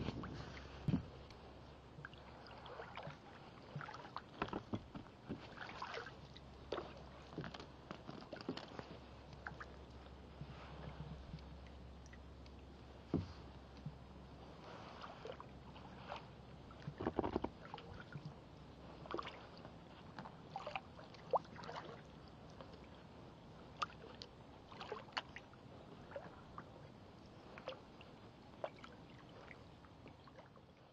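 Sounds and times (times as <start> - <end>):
paddle splashes and drips: 0.3 - 13.9, 14.6 - 23.0, 23.6 - 26.7, 27.4 - 30.9.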